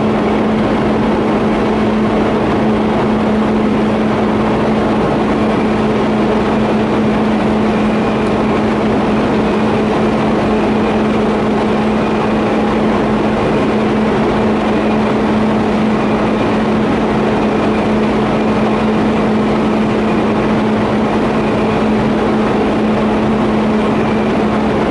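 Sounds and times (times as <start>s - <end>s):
low hum: 0.0s - 24.9s.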